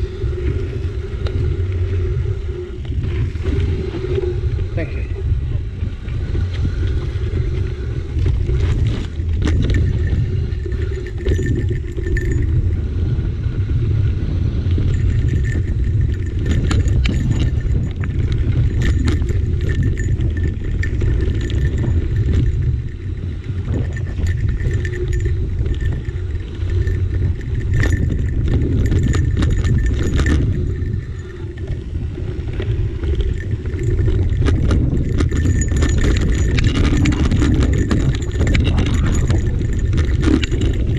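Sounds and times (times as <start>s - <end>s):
wind buffeting microphone: 0.0s - 40.9s
bike parts rattling: 5.6s - 13.1s, 14.6s - 40.9s.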